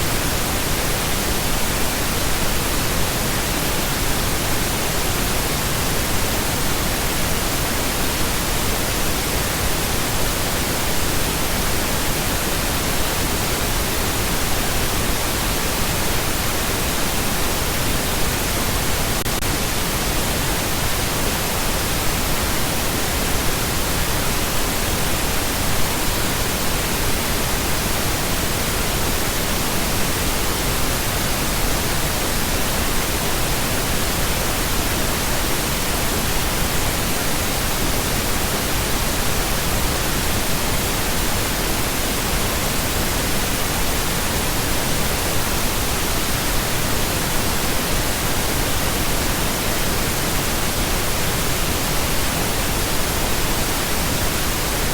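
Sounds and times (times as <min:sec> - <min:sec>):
steady pink noise hiss: 0:00.0 - 0:54.9.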